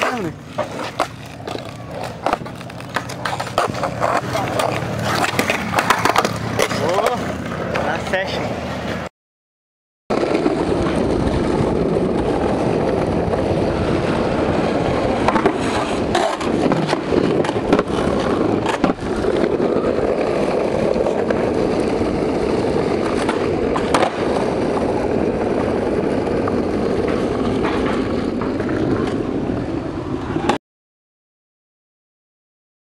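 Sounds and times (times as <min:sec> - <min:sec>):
skateboard wheels rolling on pavement: 0:00.0 - 0:09.1, 0:10.1 - 0:30.6.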